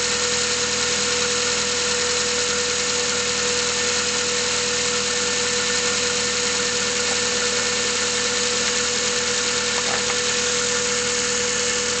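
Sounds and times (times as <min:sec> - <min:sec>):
car engine idling with rapid knocking: 0:00.0 - 0:12.0.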